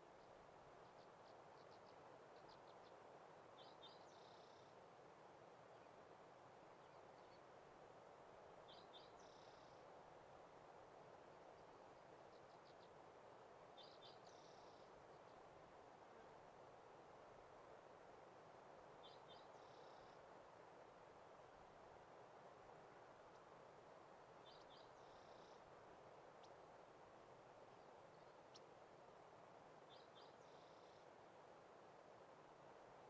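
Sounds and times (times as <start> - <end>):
steady soft hiss: 0.0 - 33.0.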